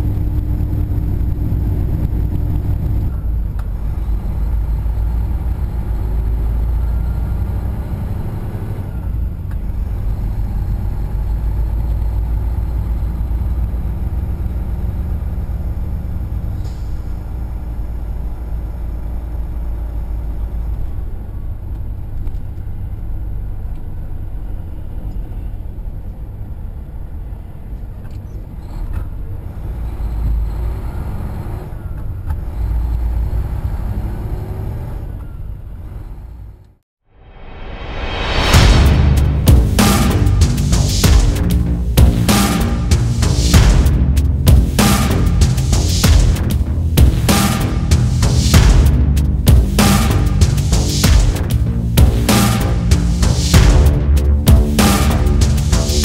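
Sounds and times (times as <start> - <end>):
truck diesel engine rumble: 0.0 - 36.7, 38.1 - 56.0
road noise: 0.0 - 56.0.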